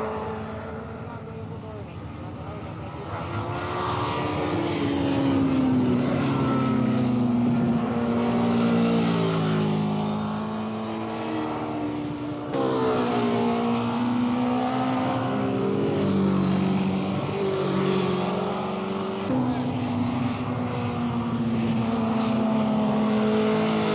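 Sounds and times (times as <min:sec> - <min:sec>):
racing motorcycle engines: 0:00.0 - 0:23.9.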